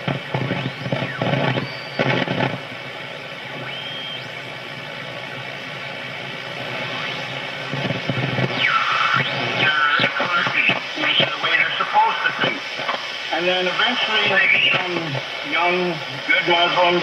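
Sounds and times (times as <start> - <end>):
radio static hiss: 0.0 - 17.0
radio station bursts: 0.0 - 17.0
radio tuning whistles: 0.0 - 17.0.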